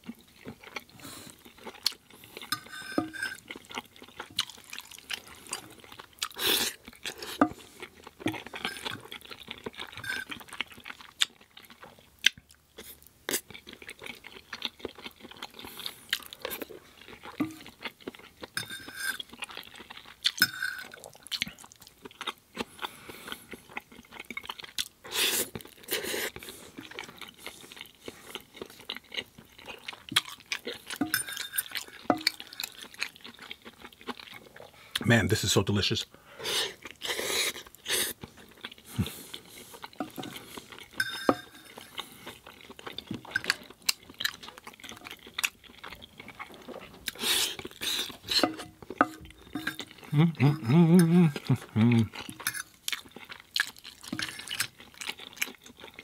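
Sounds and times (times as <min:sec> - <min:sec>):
chewing mouth sounds: 0:00.0 - 0:02.7, 0:03.3 - 0:35.0, 0:36.5 - 0:56.0.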